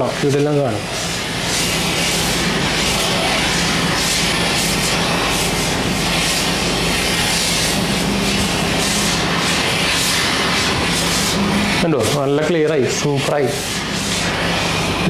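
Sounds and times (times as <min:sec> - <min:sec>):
garment steamer hissing: 0:00.0 - 0:15.0.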